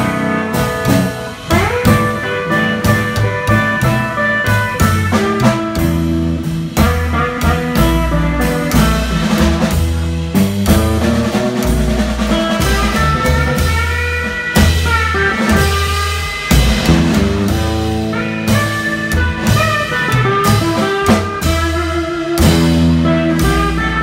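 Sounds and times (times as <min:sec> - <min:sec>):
picked guitar lines: 0:00.0 - 0:24.0
steady drum beat: 0:00.0 - 0:24.0
upright double bass notes: 0:00.0 - 0:24.0.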